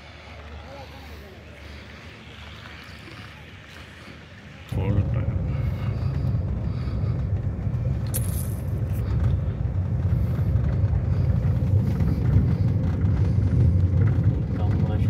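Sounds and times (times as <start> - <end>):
car rumbling on dirt road: 0.0 - 15.0.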